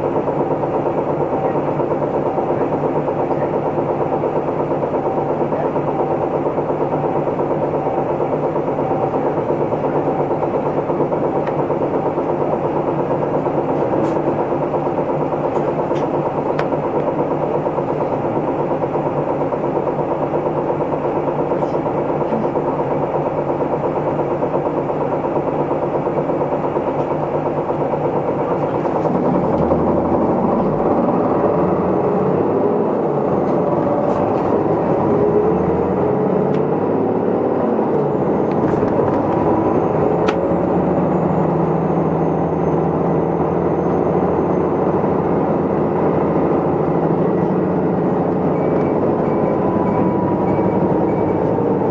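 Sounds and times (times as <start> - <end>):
bus diesel engine idling: 0.0 - 51.9.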